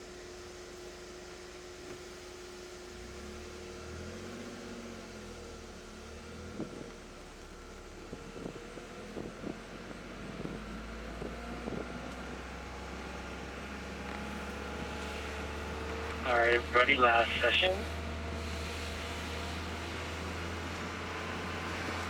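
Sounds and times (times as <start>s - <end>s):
car engine idling: 0.1s - 21.7s.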